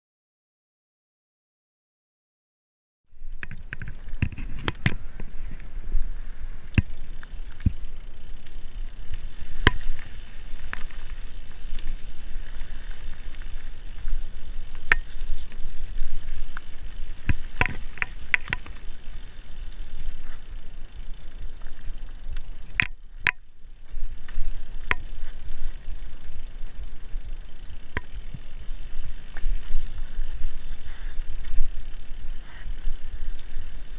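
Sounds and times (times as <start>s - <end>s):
bike rattling over bumps: 3.1s - 33.9s
bike tyres rumbling on dirt: 3.1s - 33.9s.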